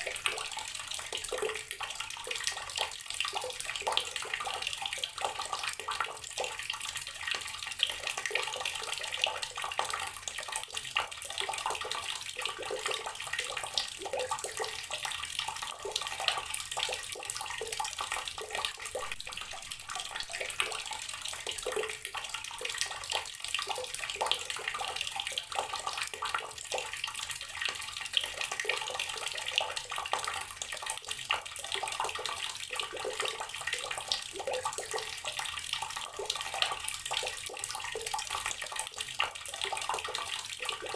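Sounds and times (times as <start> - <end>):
tap water splashing into basin: 0.0 - 40.9.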